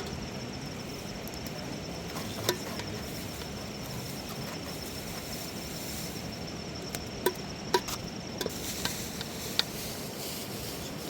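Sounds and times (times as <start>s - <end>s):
background hiss: 0.0s - 11.0s
high insect trill: 0.0s - 11.0s.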